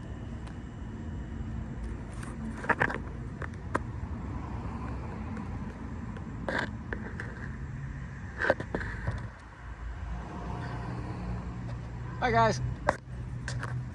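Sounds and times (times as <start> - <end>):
distant traffic rumble: 0.0 - 13.9.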